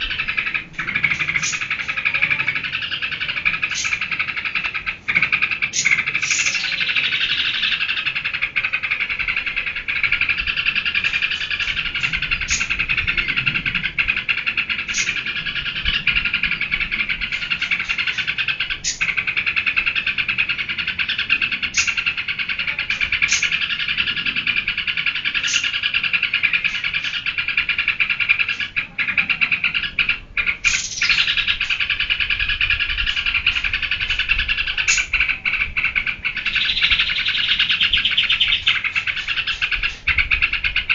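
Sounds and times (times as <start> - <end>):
bird singing chattering notes: 0.0 - 40.9.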